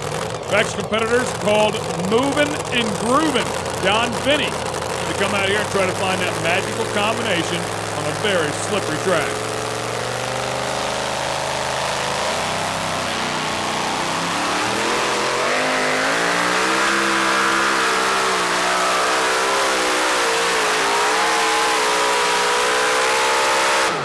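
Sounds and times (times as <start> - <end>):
supercharged engine at full throttle: 0.0 - 24.0.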